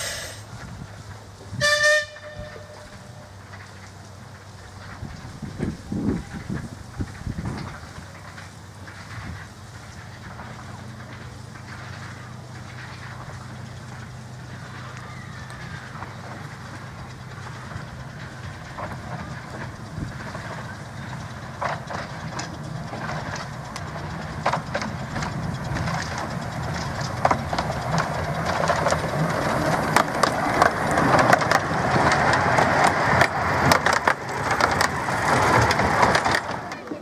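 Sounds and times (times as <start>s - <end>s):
steam locomotive passing: 0.0s - 37.0s
wheels clattering on rails: 0.0s - 37.0s.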